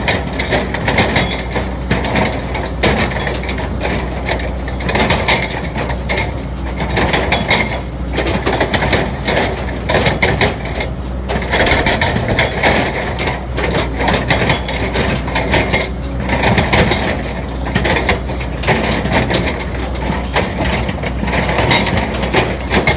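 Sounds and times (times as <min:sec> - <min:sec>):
excavator engine hum: 0:00.0 - 0:22.9
metallic clanking and rattling: 0:00.0 - 0:22.9.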